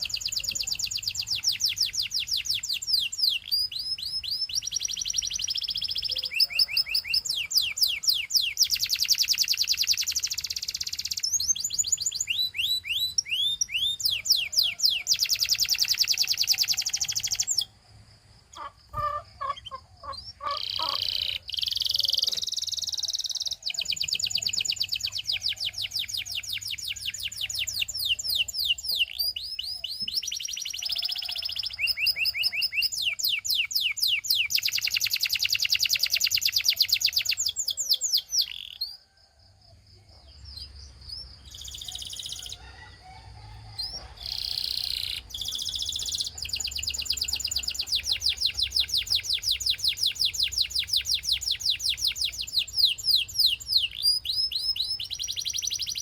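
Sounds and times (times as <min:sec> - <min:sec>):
canary singing trills: 0:00.0 - 0:39.2, 0:40.1 - 0:56.0.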